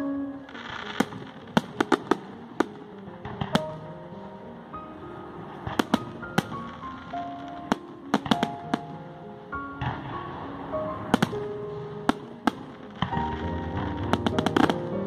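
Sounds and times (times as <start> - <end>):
music playing: 0.0 - 15.0
fireworks bursting in bangs: 0.5 - 4.1, 5.4 - 9.1, 9.8 - 15.0.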